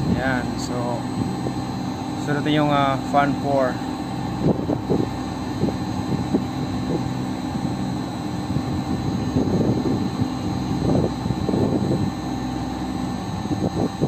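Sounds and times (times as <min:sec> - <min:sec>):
fan motors droning: 0:00.0 - 0:14.0.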